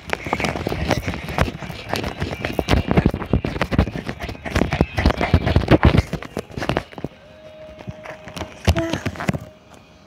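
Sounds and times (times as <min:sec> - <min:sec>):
quick footsteps: 0:00.0 - 0:09.5.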